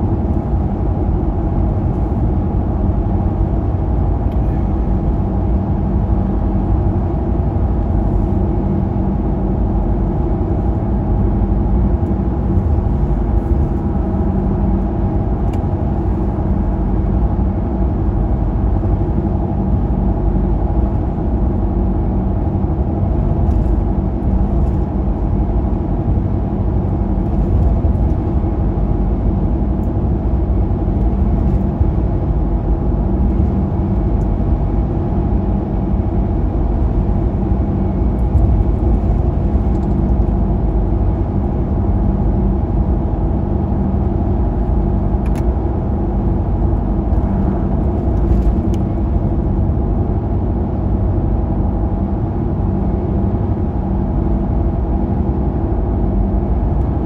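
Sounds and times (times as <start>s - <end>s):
car road rumble and engine hum: 0.0s - 57.0s.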